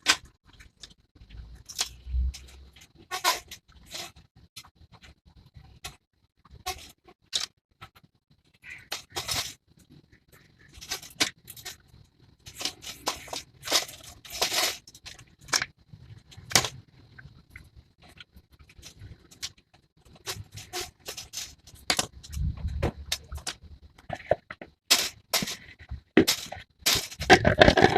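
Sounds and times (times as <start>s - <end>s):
hard objects clicking and scraping: 0.0s - 27.9s.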